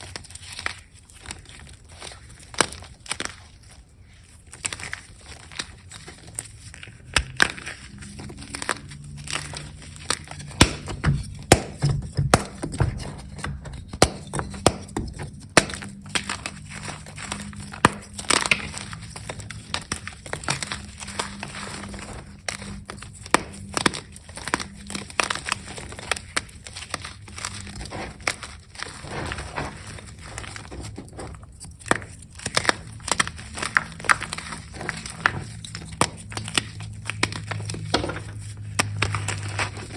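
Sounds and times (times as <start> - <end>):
chalk being crushed: 4.4 - 39.9.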